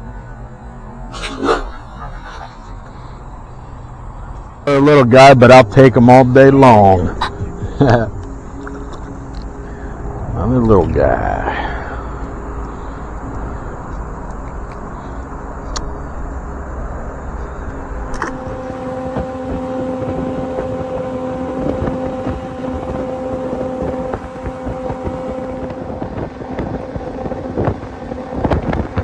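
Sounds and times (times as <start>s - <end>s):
boat motor running: 0.0s - 29.0s
steady hum: 0.0s - 29.0s
wind buffeting microphone: 1.1s - 29.0s.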